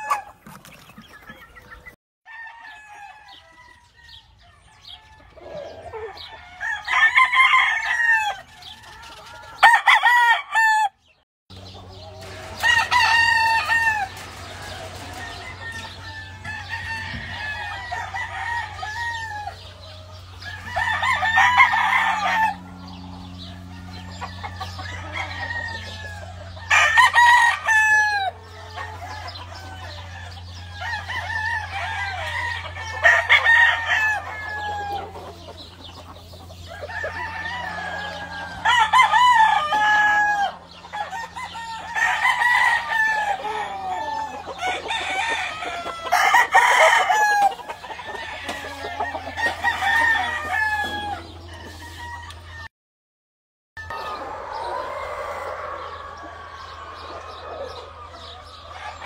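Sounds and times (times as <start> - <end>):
roosters crowing: 0.0 - 52.7, 53.8 - 59.0.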